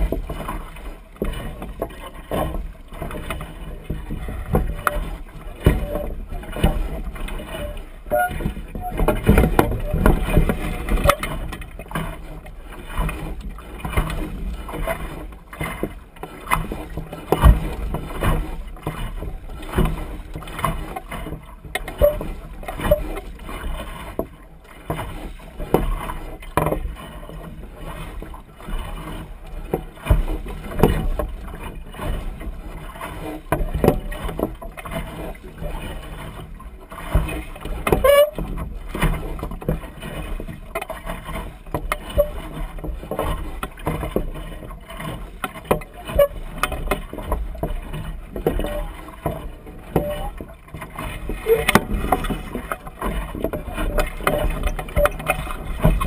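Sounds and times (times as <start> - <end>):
water splashing against hull: 0.0 - 56.0.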